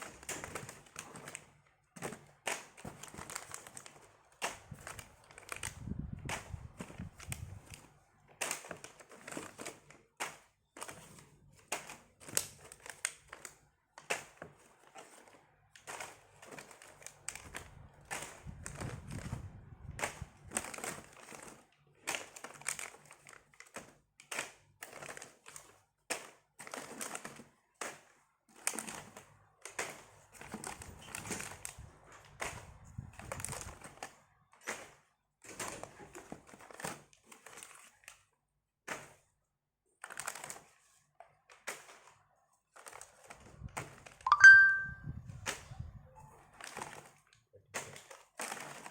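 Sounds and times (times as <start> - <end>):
plastic packaging crinkling: 0.0 - 38.3, 40.0 - 45.0, 46.4 - 48.9.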